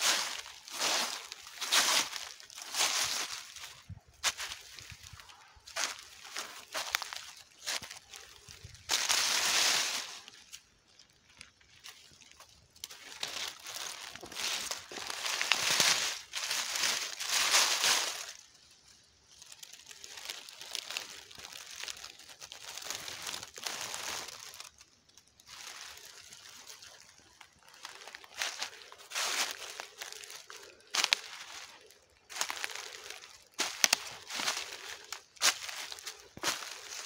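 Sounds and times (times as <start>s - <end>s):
footsteps in dry leaves: 0.0s - 37.0s.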